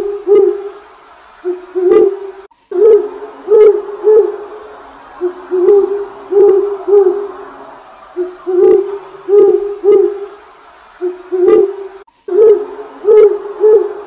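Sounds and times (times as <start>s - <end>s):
low hooting tone: 1.4s - 14.0s.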